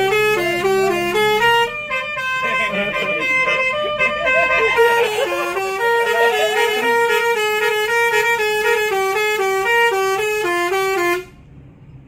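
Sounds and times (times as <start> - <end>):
multi-tone bus horn tune: 0.0 - 11.5.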